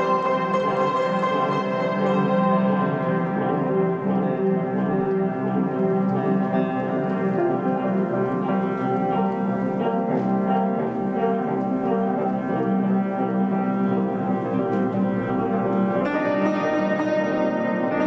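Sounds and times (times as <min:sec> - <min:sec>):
upright piano playing: 0:00.0 - 0:18.0.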